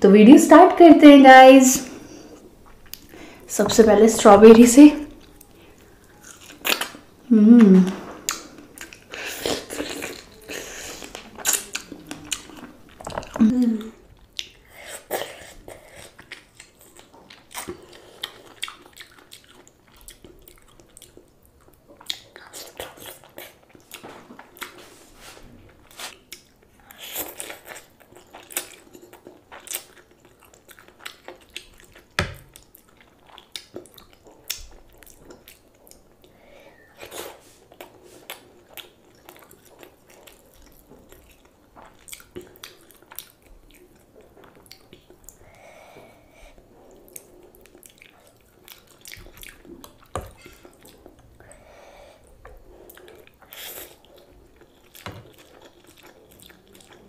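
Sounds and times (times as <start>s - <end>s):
person chewing: 2.0s - 3.5s, 5.1s - 24.9s, 25.8s - 57.0s.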